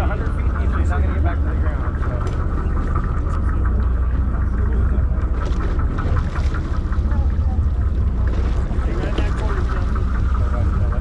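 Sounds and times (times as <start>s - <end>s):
boat engine rumbling: 0.0s - 11.0s
sea and deck noise: 0.0s - 11.0s.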